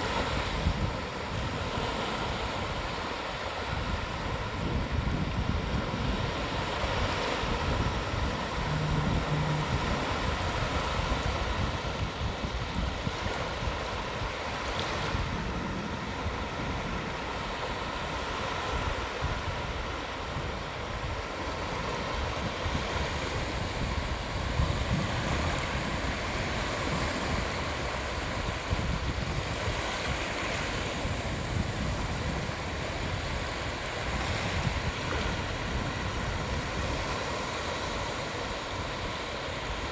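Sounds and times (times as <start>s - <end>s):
sea waves washing onto beach: 0.0s - 39.9s
wind buffeting microphone: 0.0s - 39.9s.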